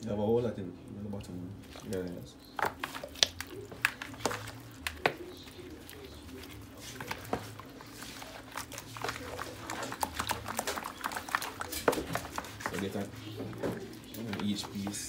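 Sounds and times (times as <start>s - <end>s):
raw chicken being handled: 1.2s - 15.0s.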